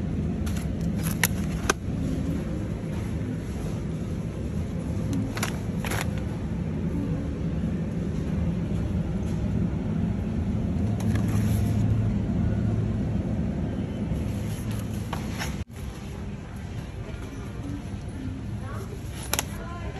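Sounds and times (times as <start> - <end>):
supermarket background rumble: 0.0 - 19.9.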